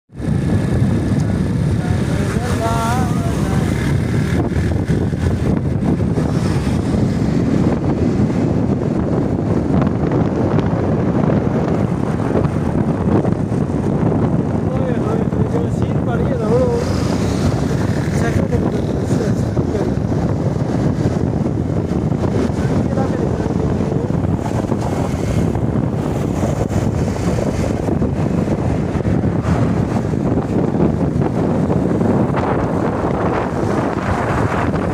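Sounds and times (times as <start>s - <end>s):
motorcycle engine rumble: 0.1s - 34.9s
wind rushing over microphone: 0.1s - 34.9s.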